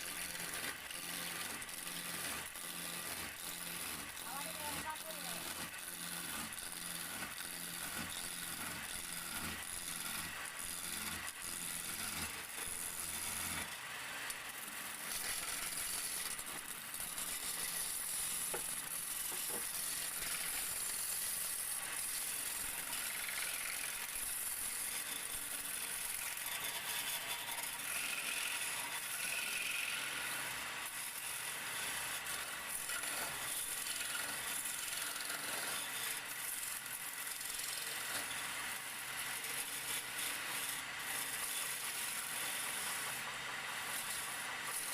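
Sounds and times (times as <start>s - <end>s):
wood lathe cutting: 0.0s - 44.9s.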